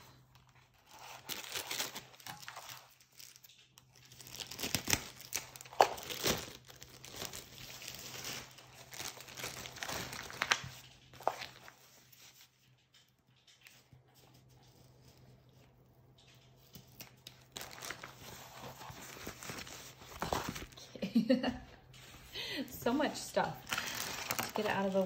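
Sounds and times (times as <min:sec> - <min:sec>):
plastic wrapping crinkling: 0:00.0 - 0:25.0.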